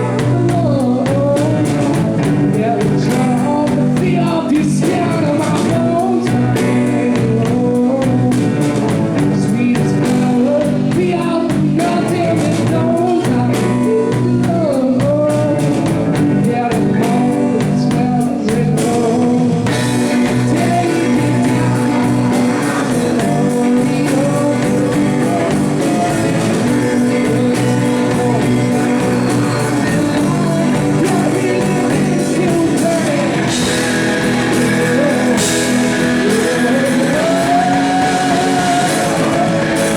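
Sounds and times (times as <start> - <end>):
blues-rock band playing: 0.0 - 39.9
person singing: 0.0 - 39.9.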